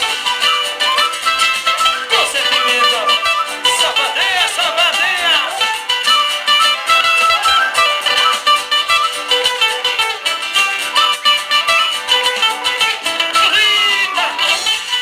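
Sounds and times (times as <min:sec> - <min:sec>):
flute melody: 0:00.0 - 0:15.0
strummed acoustic guitar: 0:00.0 - 0:15.0.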